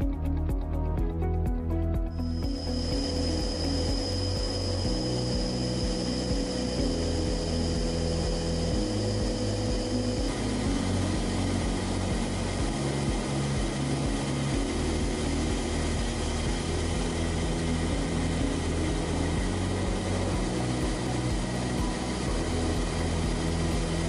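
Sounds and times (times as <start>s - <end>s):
low uneven throb: 0.0s - 24.0s
propeller aircraft drone: 2.0s - 24.0s.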